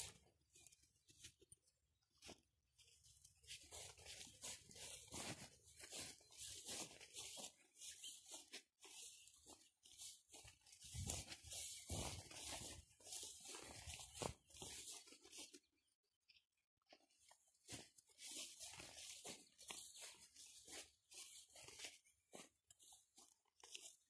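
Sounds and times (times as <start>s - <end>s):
footsteps through grass: 0.0s - 15.9s, 16.9s - 24.0s.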